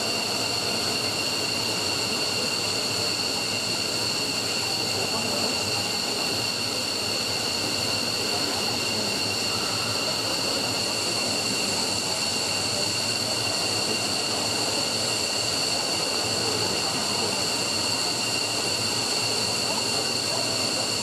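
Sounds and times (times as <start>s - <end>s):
jet engines running with whine: 0.0s - 21.0s.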